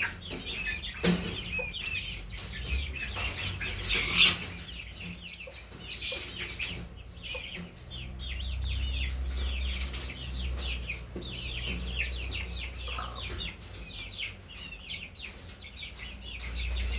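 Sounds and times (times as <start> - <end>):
chicks peeping: 0.0 - 16.9.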